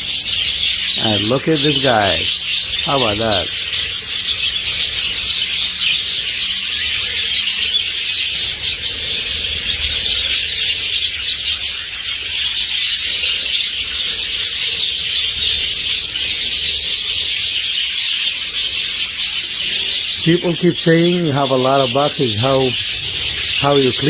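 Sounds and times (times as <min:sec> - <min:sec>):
flock of budgerigars chattering: 0:00.0 - 0:24.0.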